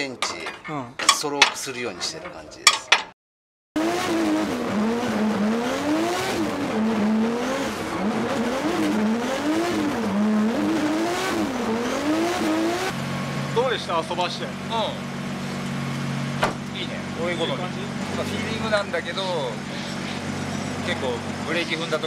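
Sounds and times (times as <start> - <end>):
car engine revving: 3.8 - 22.0.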